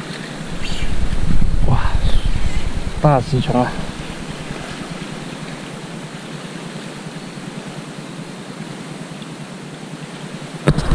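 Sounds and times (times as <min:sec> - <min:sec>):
sea water rushing: 0:00.0 - 0:10.6.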